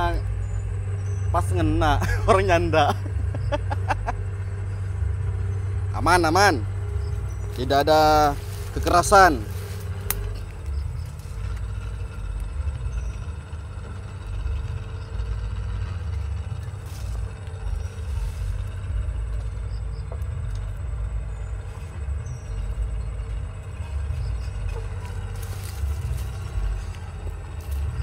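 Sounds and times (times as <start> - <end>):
low outdoor rumble: 0.0 - 28.0.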